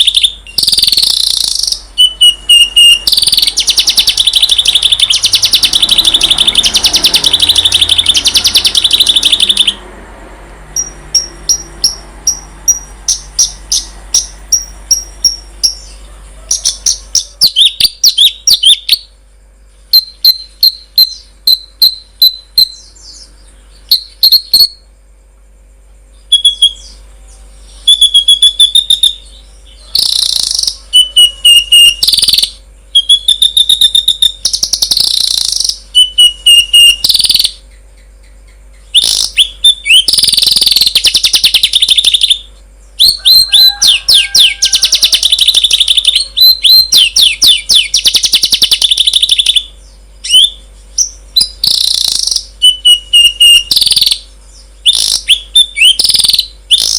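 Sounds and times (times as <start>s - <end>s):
songbird singing: 0.0s - 56.9s.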